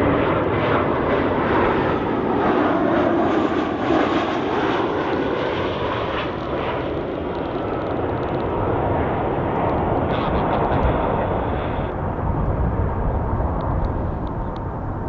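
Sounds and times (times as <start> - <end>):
landing jet engine roar: 0.0 - 15.0.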